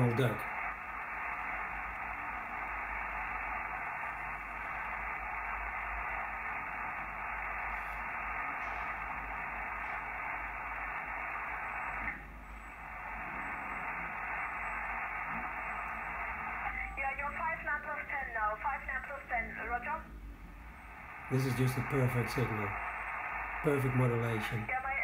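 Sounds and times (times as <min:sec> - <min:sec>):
radio receiver static hiss: 0:00.0 - 0:25.0.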